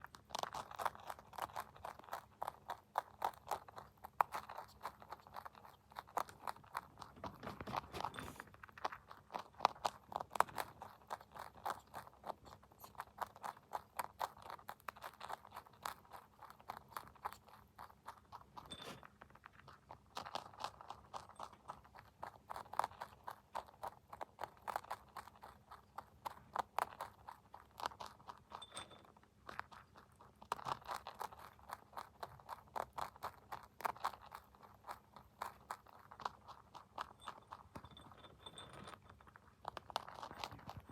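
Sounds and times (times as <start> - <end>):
rabbit crunching pellets: 0.0 - 40.9.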